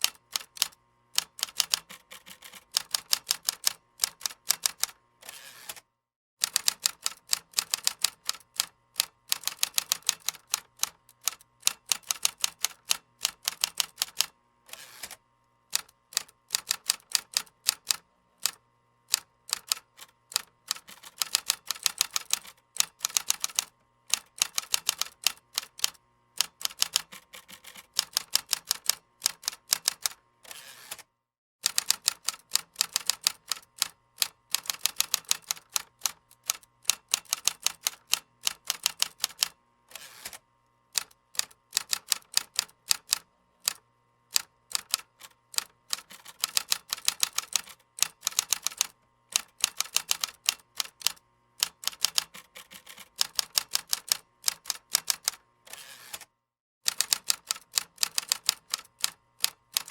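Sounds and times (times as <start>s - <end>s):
keyboard typing: 0.0s - 5.0s, 6.4s - 14.3s, 15.8s - 30.2s, 31.7s - 39.6s, 41.0s - 55.4s, 56.9s - 59.9s.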